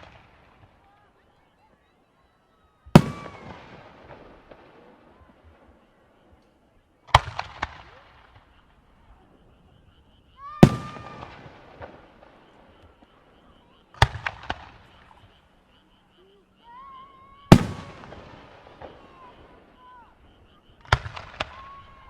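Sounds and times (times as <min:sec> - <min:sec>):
fireworks bursting with bangs: 0:00.0 - 0:01.0, 0:02.6 - 0:06.4, 0:07.1 - 0:15.5, 0:17.3 - 0:22.0
fireworks crackling: 0:00.0 - 0:22.0.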